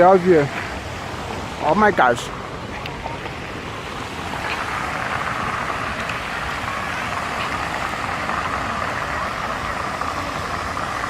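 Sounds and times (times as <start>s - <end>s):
boat engine rumbling: 0.0s - 11.0s
wind and water hiss: 0.0s - 11.0s.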